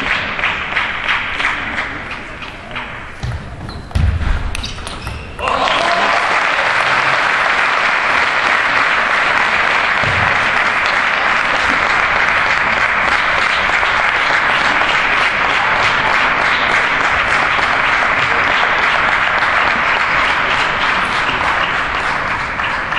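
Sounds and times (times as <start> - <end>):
crowd applauding: 0.0 - 3.0, 5.4 - 22.9.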